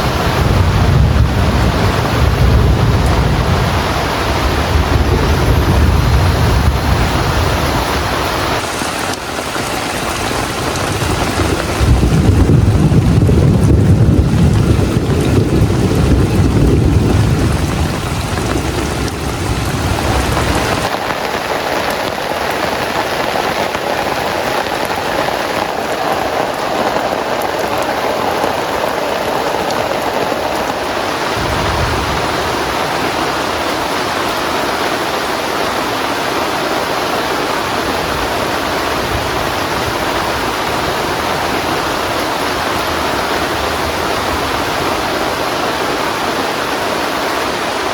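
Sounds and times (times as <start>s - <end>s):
thunder rumbling: 0.0s - 46.8s
heavy rain falling: 0.0s - 47.9s.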